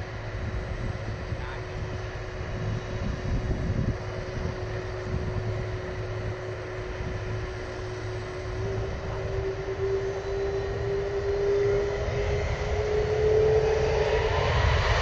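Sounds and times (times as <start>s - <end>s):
jet engine whine: 0.0s - 15.0s
jet engines deep rumble: 0.0s - 15.0s.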